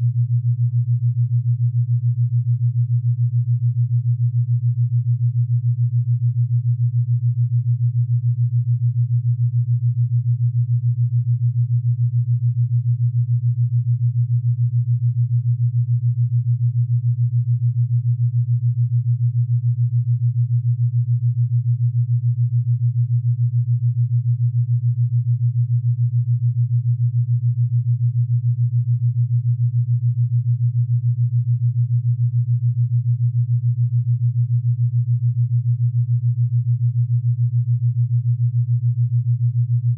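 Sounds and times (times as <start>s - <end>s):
fluttering electronic test tone hum: 0.0s - 39.9s.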